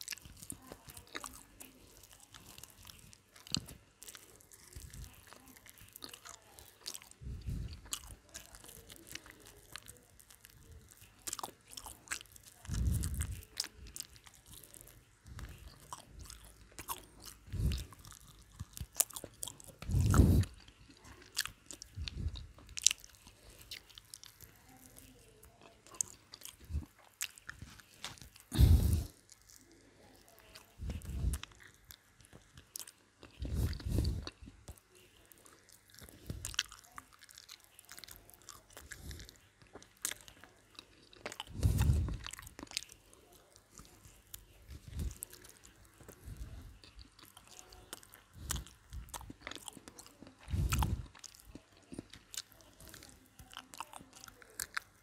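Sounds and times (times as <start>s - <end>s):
person chewing fried chicken: 0.0s - 55.0s.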